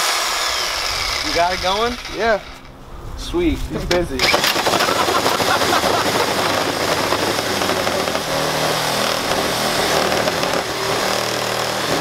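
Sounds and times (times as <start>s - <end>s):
corded power tool running: 0.0s - 2.8s, 4.2s - 12.0s
steady hum: 0.0s - 12.0s.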